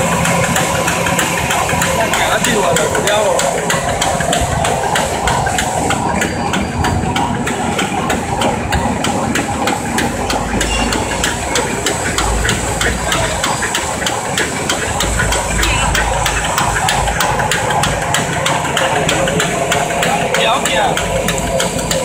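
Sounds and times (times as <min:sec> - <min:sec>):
machine mechanical din: 0:00.0 - 0:22.0
rapid machine clatter: 0:00.0 - 0:22.0.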